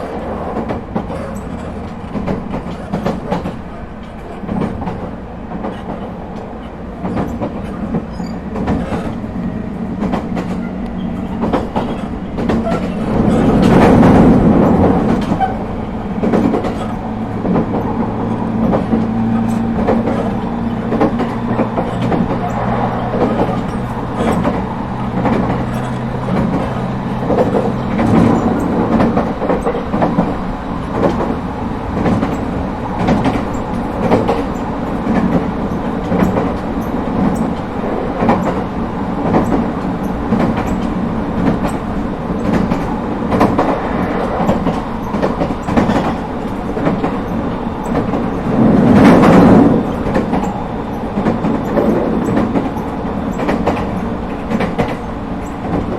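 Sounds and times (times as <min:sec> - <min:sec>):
electric train rolling: 0:00.0 - 0:55.9
rail-joint clicks: 0:00.0 - 0:55.9.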